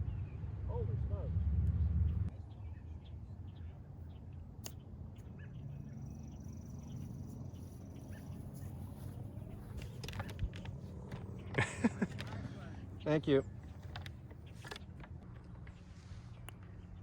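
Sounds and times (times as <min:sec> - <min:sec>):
steady low rumble: 0:00.0 - 0:13.7.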